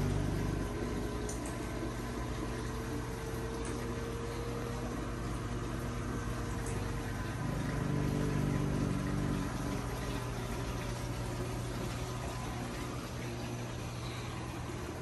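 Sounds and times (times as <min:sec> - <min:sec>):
aquarium pump motor hum: 0:00.0 - 0:15.0
water circulating: 0:00.0 - 0:15.0.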